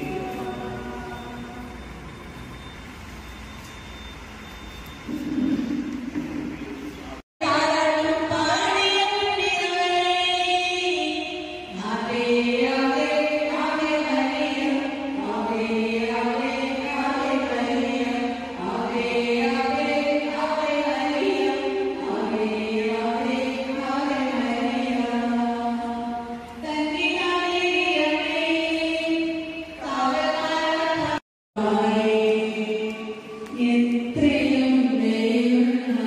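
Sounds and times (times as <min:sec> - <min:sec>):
slow hymn singing: 0:00.0 - 0:02.7, 0:07.4 - 0:36.0.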